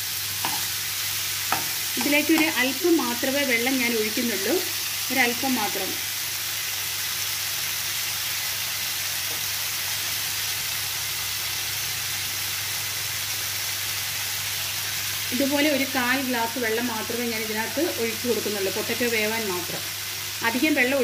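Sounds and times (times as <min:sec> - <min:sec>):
potatoes sizzling in a pan: 0:00.0 - 0:21.0.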